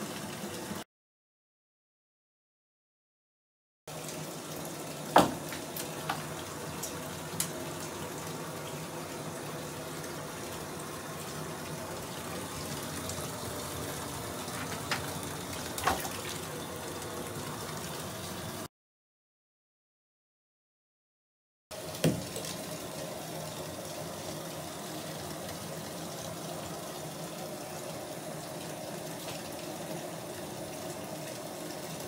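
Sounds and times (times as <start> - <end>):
running water filling bathtub: 0.0 - 0.8, 3.9 - 18.7, 21.7 - 32.0.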